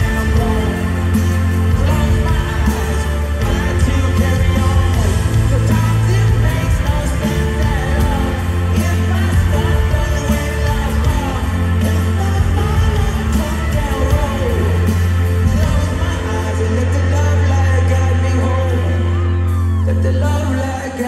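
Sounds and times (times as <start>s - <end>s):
live rock band playing: 0.0s - 21.0s
man singing lead vocal: 0.0s - 21.0s.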